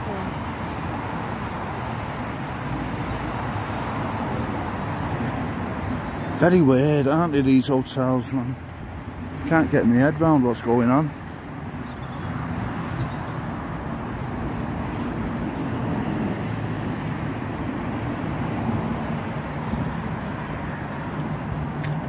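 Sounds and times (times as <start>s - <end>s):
low outdoor drone: 0.0s - 22.0s.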